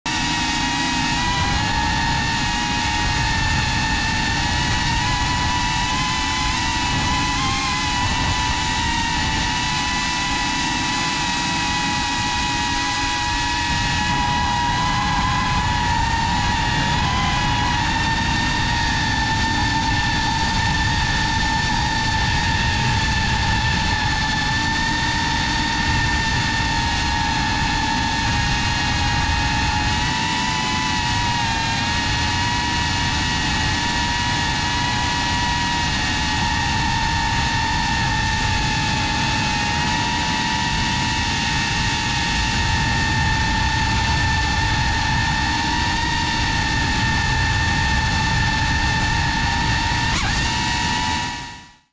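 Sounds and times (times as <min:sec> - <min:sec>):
drone motors whining: 0:00.1 - 0:51.9.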